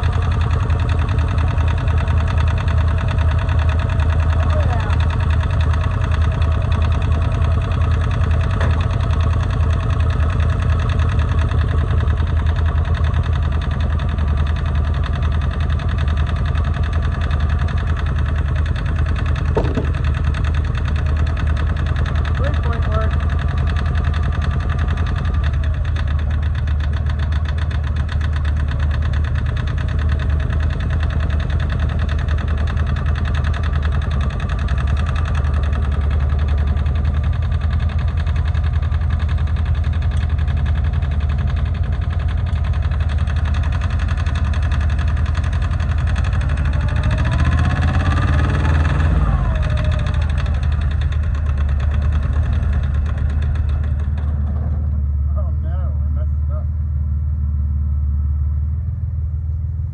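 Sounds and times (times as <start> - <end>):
diesel engine idling and revving: 0.0 - 59.9.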